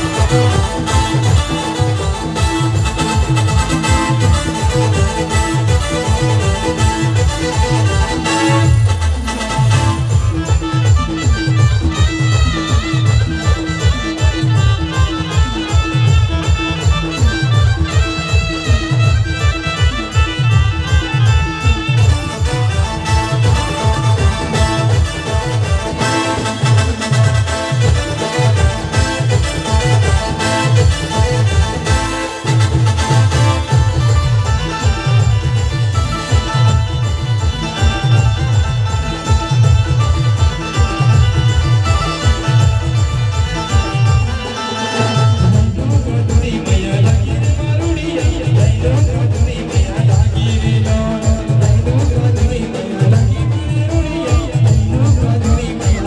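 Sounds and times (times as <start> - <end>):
village band playing folk dance music: 0.0 - 56.0.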